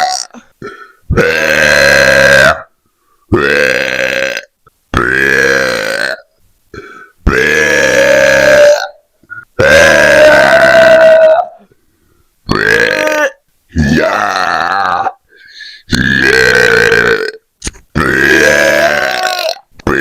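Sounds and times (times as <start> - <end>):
loud drawn-out burps: 0.0 - 2.7, 3.3 - 11.5, 12.5 - 15.2, 15.9 - 20.0.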